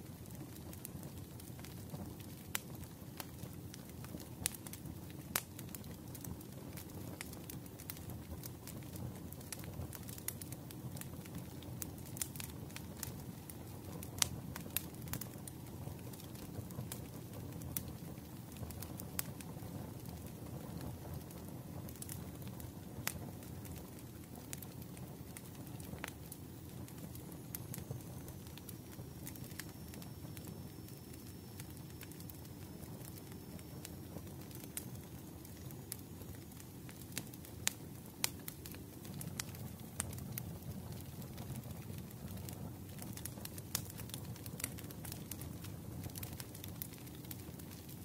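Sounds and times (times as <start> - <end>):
low rumble of flames: 0.0 - 48.0
wood fire crackling: 0.0 - 48.0.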